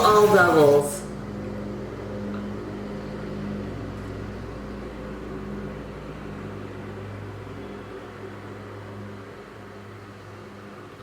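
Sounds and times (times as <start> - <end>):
low steady drone with hum: 0.0 - 11.0.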